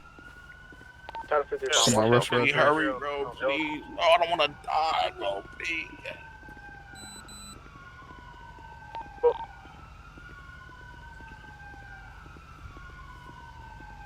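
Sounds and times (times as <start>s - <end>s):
emergency sirens wailing: 0.0s - 14.0s.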